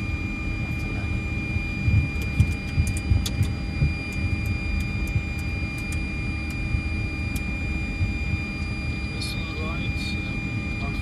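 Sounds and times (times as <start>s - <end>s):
engine whines: 0.0s - 11.0s
low uneven cockpit rumble: 0.0s - 11.0s.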